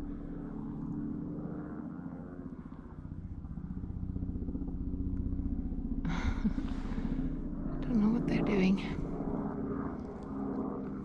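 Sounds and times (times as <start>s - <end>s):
helicopter rotor beating: 0.0s - 11.0s
low engine drone: 0.0s - 11.0s.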